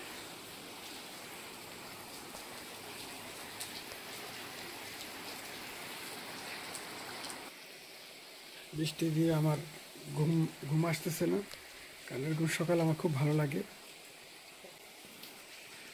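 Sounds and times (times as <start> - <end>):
heavy rain falling: 0.0 - 15.9.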